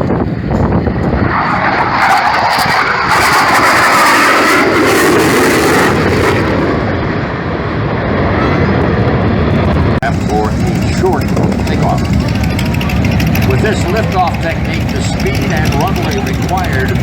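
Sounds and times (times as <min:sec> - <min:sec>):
jet aircraft engine roar: 0:00.0 - 0:17.0.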